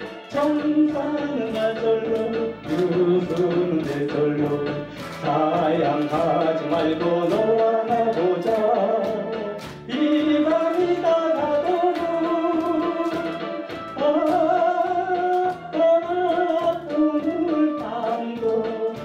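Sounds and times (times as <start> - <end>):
backing track with steady beat: 0.0 - 19.0
man singing into microphone: 0.0 - 19.0.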